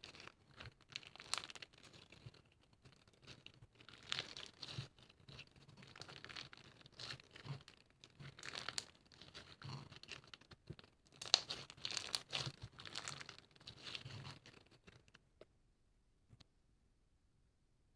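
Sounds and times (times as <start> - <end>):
crinkling and rustling: 0.0 - 15.5.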